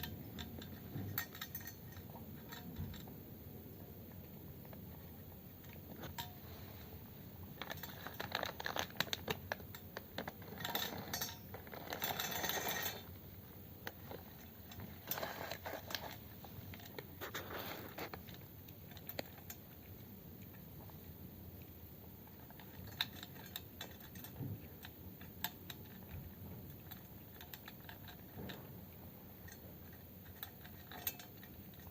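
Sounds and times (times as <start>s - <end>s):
cat eating from a dish: 0.0s - 31.9s.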